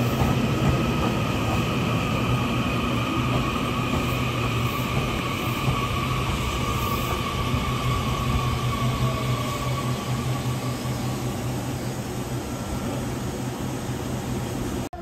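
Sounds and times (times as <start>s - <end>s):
electric train rolling past: 0.0s - 15.0s.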